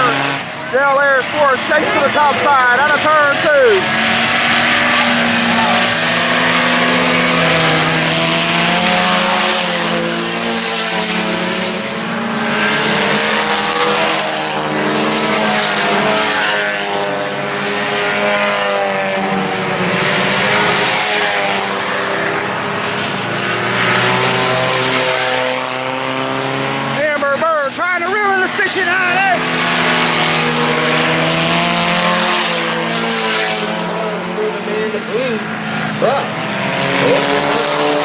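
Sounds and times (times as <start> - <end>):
race car engines at full throttle: 0.0 - 38.0.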